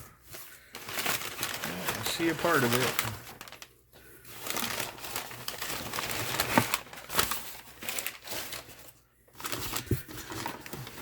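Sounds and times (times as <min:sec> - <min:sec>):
packing paper crumpling: 0:00.2 - 0:11.0.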